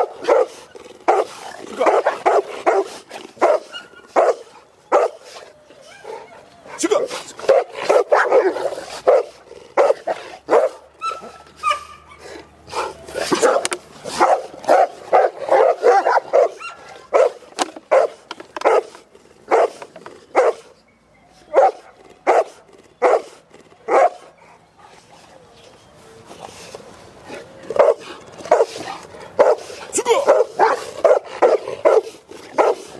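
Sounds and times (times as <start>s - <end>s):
dogs barking: 0.0s - 5.2s, 6.1s - 20.7s, 21.5s - 24.4s, 27.7s - 32.9s.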